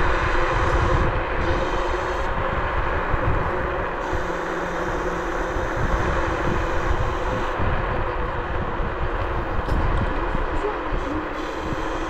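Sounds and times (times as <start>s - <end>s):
electric motor hum: 0.0s - 12.0s
road noise hiss: 0.0s - 12.0s
wind buffeting microphone: 0.0s - 12.0s.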